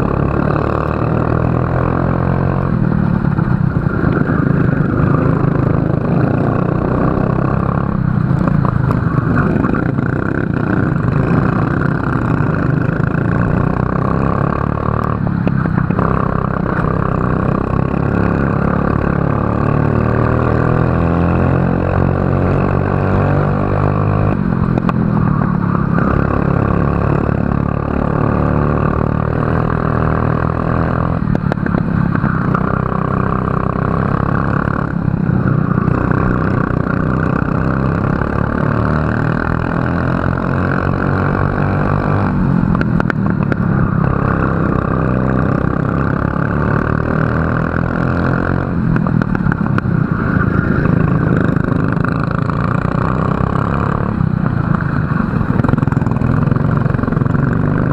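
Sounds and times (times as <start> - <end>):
racing kart engine: 0.0 - 57.9.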